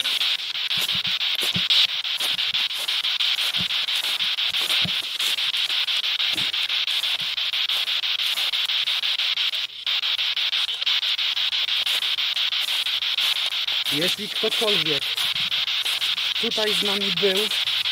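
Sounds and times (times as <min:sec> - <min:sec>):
radio static sweeping stations: 0:00.0 - 0:17.9.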